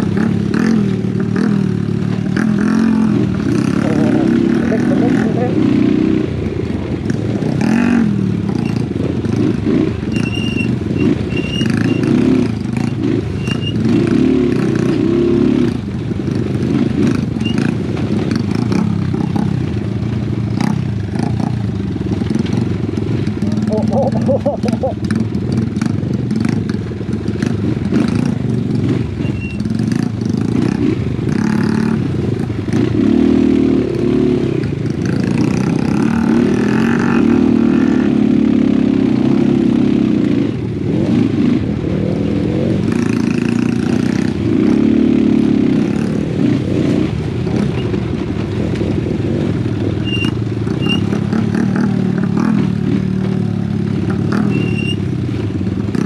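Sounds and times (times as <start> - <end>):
motorcycle knocks and rattles: 0.0 - 5.4, 6.4 - 38.0, 39.3 - 56.0
motorcycle engine revving: 0.0 - 56.0.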